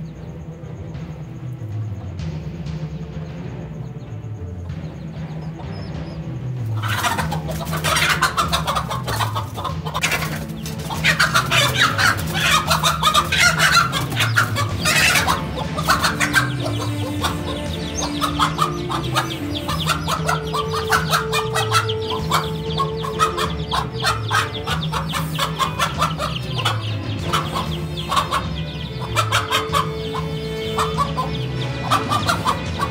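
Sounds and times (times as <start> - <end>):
background music with drum: 0.0 - 32.9
hen squawking and clucking: 4.6 - 32.9.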